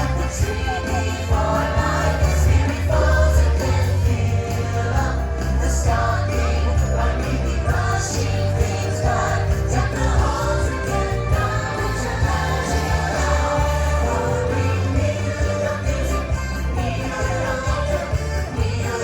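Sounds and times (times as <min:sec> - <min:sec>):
choir voices: 0:00.0 - 0:19.0
heavy bass: 0:00.0 - 0:19.0
shaken metal sleigh chimes in music: 0:00.0 - 0:19.0
song over outdoor loudspeakers: 0:00.0 - 0:19.0.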